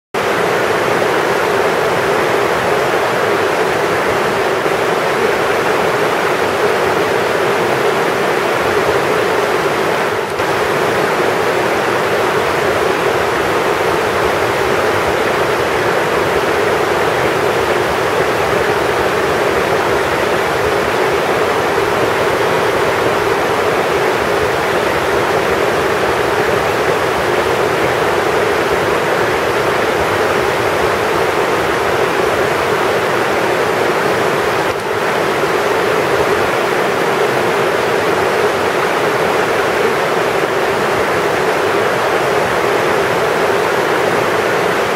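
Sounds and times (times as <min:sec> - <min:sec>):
river rapids rushing: 0:00.2 - 0:44.9.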